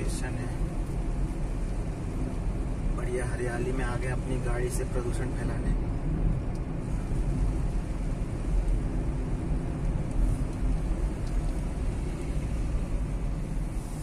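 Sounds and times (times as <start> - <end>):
car engine hum: 0.0 - 14.0
tyre road rumble: 0.0 - 14.0.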